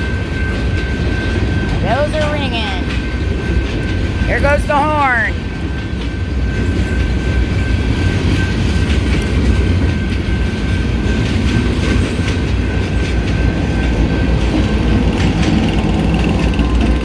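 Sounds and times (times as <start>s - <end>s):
train rumbling past: 0.0s - 17.0s
train wheels clickety-clack: 0.0s - 17.0s.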